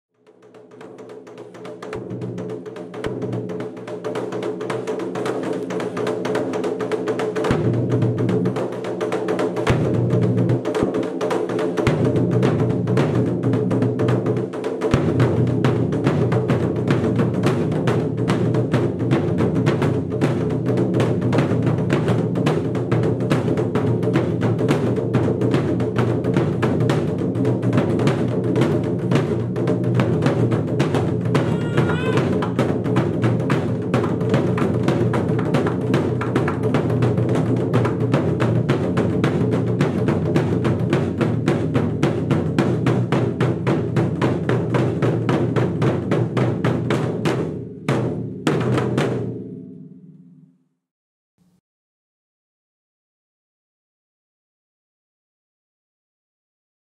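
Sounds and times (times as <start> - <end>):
taiko drums rapid strokes: 0.2 - 50.5.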